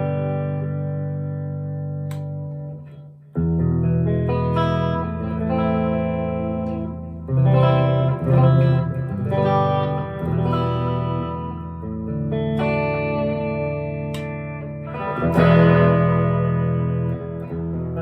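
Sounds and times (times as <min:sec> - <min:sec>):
clean electric guitar chords: 0:00.0 - 0:18.0.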